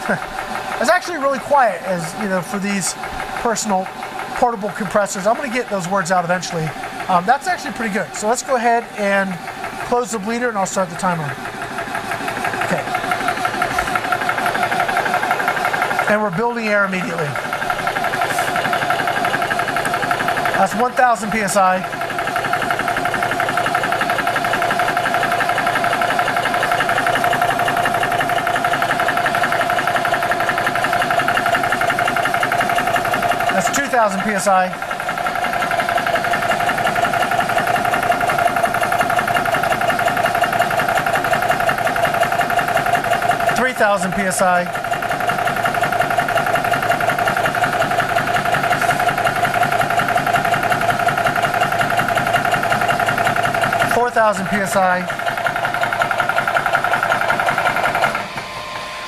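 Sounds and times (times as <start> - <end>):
air compressor pulsing: 0.0 - 59.0
cooling fan running: 0.0 - 59.0.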